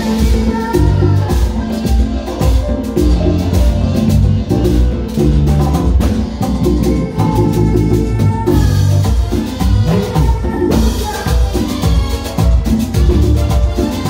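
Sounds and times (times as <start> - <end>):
congas: 0.0 - 14.0
latin dance band music: 0.0 - 14.0.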